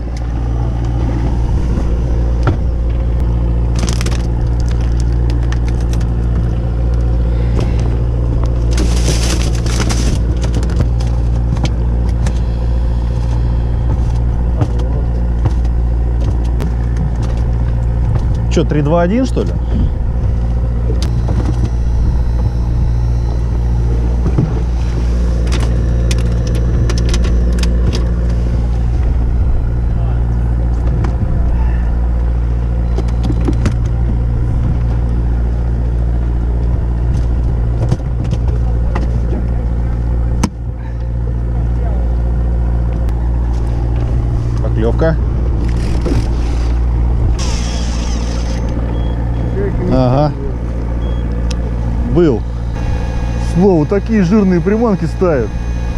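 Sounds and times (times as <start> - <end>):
boat engine humming: 0.0 - 55.9.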